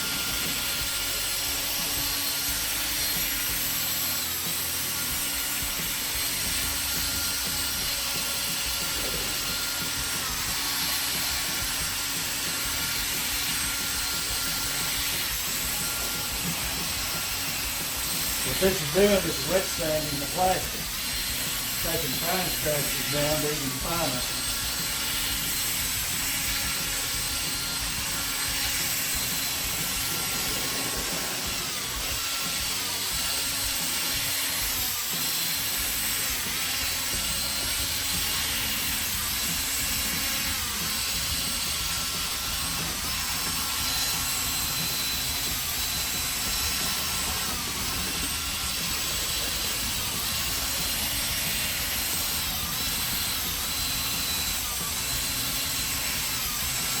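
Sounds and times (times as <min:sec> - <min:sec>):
power drill motor whine: 0:00.0 - 0:57.0.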